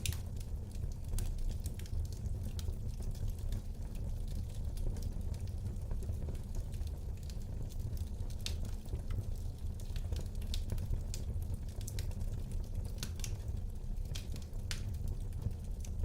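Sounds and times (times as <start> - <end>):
fire burning in fireplace: 0.0 - 16.0
fire crackles and pops: 0.0 - 16.0.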